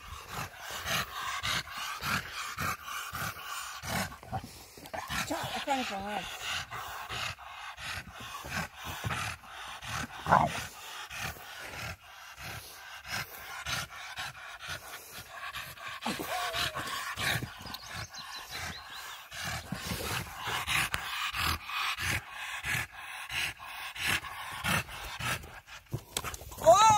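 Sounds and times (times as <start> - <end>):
dogs panting: 0.0 - 26.9.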